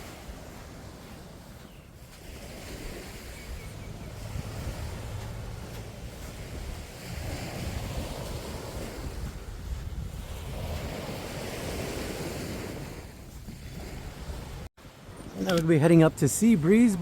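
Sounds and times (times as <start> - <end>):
wind rumbling on microphone: 0.0 - 15.6
waves washing onto sandy beach: 0.0 - 17.0.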